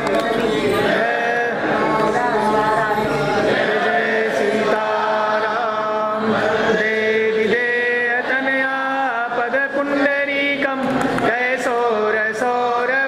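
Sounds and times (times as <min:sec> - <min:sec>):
voices chanting a hymn: 0:00.0 - 0:13.0.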